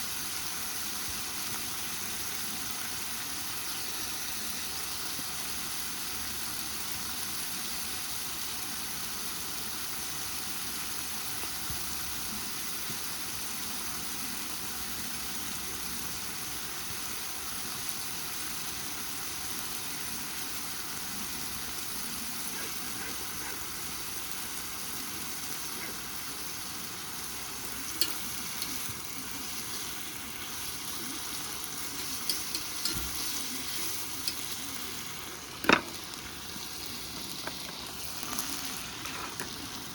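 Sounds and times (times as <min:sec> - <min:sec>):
meat and garlic sizzling in pan: 0:00.0 - 0:39.9.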